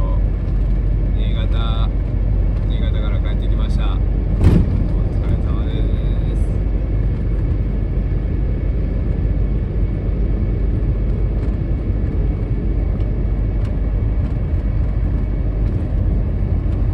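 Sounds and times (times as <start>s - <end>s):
car road noise from cabin: 0.0s - 16.9s.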